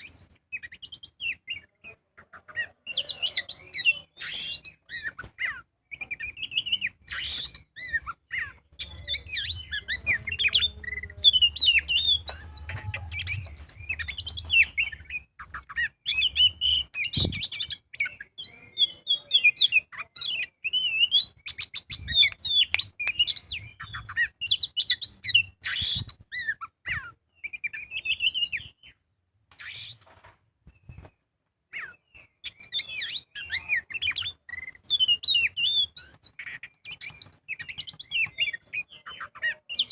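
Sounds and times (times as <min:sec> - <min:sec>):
magpie-robin singing: 0:00.0 - 0:30.1, 0:30.7 - 0:39.9.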